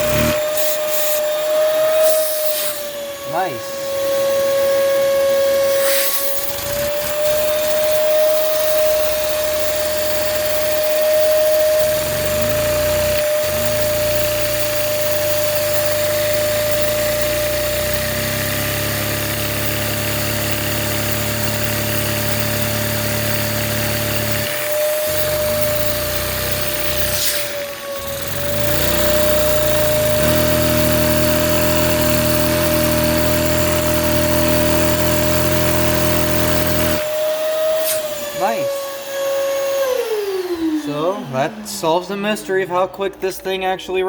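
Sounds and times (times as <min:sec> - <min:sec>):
toy engine mechanical running: 0:00.0 - 0:41.7
vacuum cleaner motor whining: 0:00.0 - 0:42.6.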